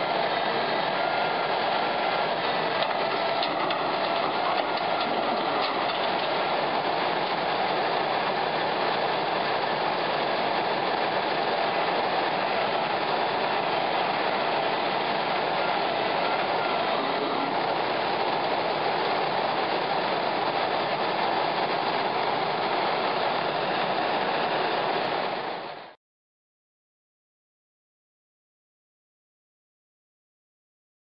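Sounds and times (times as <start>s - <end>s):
truck engine and winch running: 0.0s - 26.0s.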